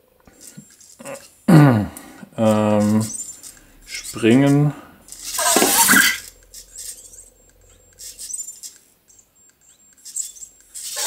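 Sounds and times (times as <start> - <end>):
toy robot motors clicking and whirring: 0.3 - 1.5, 2.4 - 11.0.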